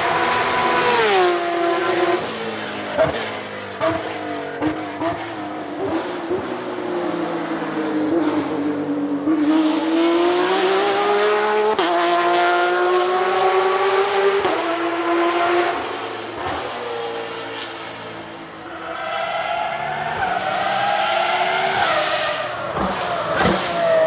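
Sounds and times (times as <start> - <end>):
car engine accelerating hard: 0.0 - 18.6, 19.7 - 24.0.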